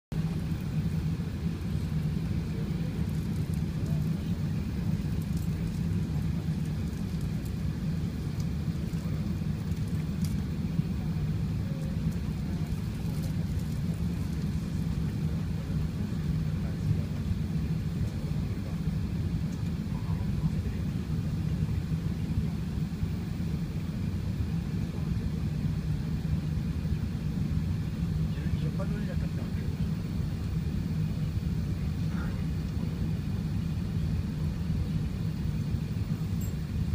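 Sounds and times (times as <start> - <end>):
airplane cabin rumble: 0.1 - 36.9.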